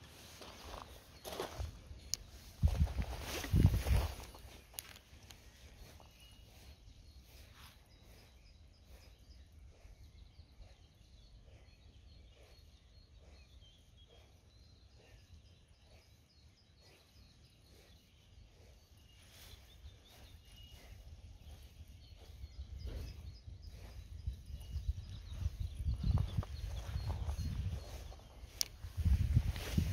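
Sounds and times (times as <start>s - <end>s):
distant birds chirping: 0.0s - 29.9s.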